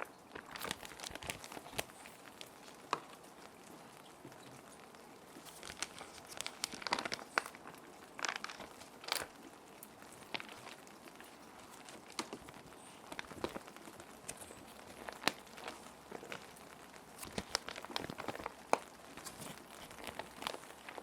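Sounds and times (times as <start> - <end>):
faint steady rain: 0.0 - 21.0
plastic sheet protectors crinkling: 0.0 - 21.0.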